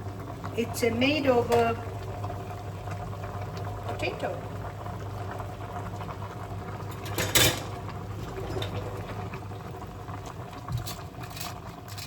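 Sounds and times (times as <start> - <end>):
water boiling and bubbling: 0.0 - 12.0.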